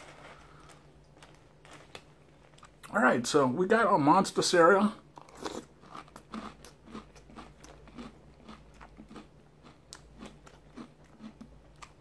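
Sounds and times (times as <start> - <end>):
person chewing crunchy cereal: 0.0 - 2.9, 5.1 - 12.0.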